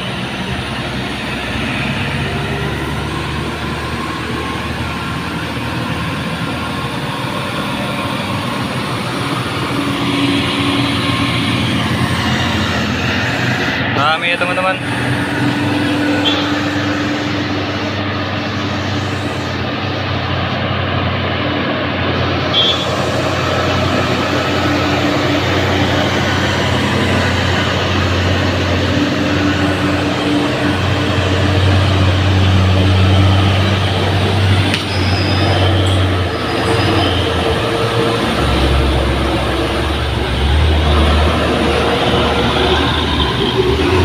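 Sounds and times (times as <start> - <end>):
diesel trucks driving past: 0.0 - 44.0.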